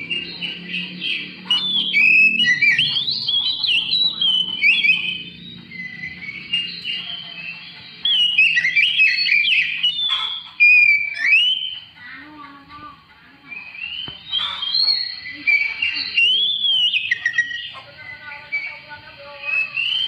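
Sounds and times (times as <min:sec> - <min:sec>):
bird singing whistled notes: 0:00.0 - 0:12.2, 0:13.4 - 0:20.0.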